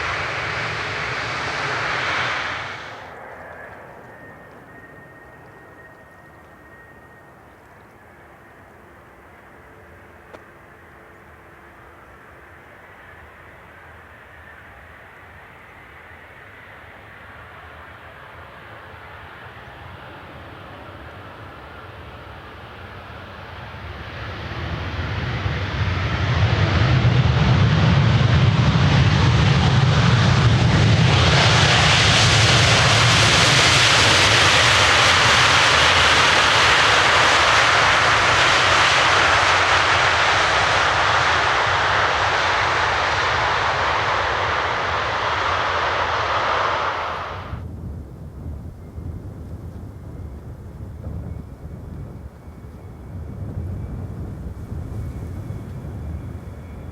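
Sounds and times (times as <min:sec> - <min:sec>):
jet engines roaring: 0:00.0 - 0:47.7.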